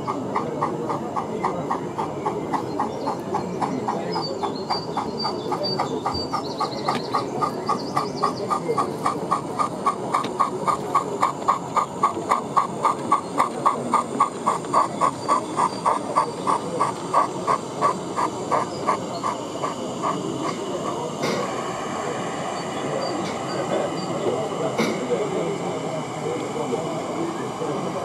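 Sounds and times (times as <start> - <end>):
model steam locomotive chuffing: 0.0 - 28.0
steady background noise: 0.0 - 28.0.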